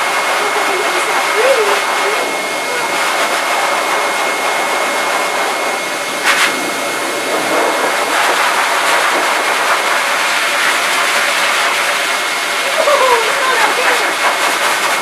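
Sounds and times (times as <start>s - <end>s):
dryer blowing air: 0.0s - 15.0s
high blower whine: 0.0s - 15.0s.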